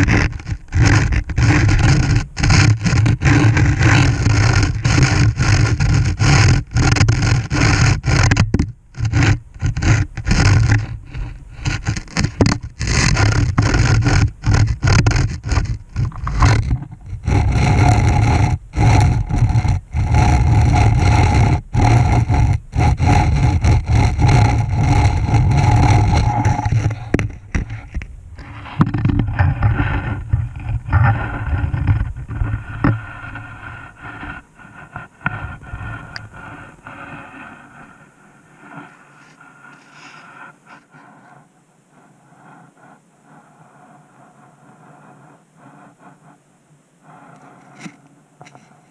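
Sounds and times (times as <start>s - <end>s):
camera scraping against rock walls: 0.0s - 43.0s.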